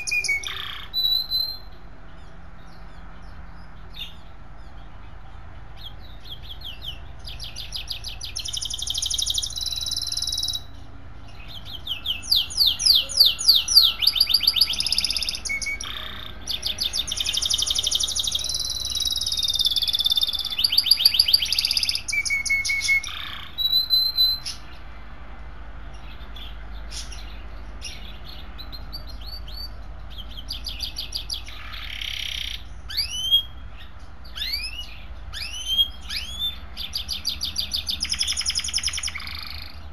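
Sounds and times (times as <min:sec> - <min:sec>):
canary singing trills and chirps: 0:00.0 - 0:39.9.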